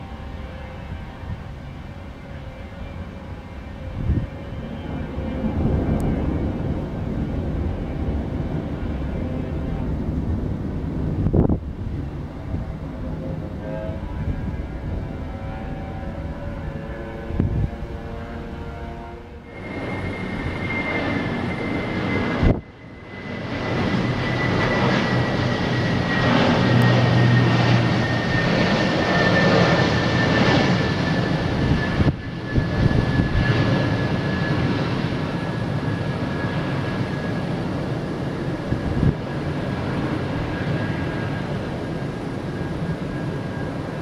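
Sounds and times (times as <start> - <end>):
high engine whine: 0.0 - 44.0
jet airliner engines rushing: 0.0 - 44.0.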